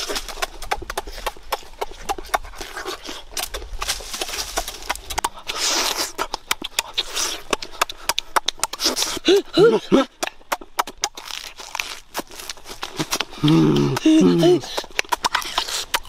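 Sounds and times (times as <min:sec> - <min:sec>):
chewing and lip-smacking: 0:00.0 - 0:16.0.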